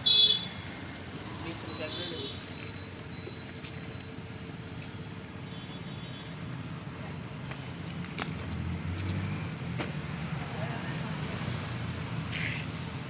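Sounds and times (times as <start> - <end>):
traffic hum: 0.0 - 13.0.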